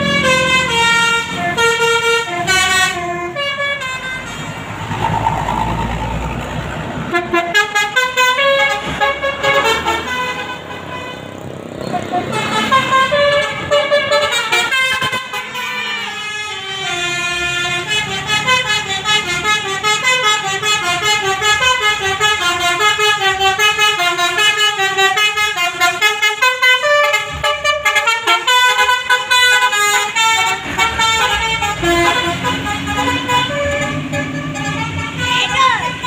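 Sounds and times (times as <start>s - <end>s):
bus horn playing a melody: 0.0s - 4.7s, 7.0s - 36.0s
bus engine rumble: 0.0s - 36.0s.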